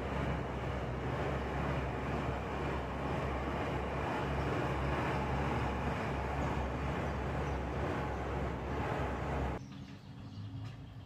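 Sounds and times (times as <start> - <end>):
exercise bike whirring: 0.0 - 9.6.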